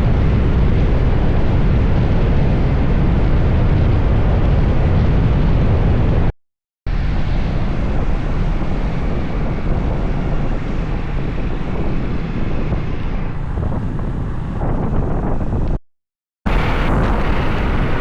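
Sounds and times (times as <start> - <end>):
wind buffeting microphone: 0.0 - 6.3, 6.9 - 15.8, 16.5 - 18.0.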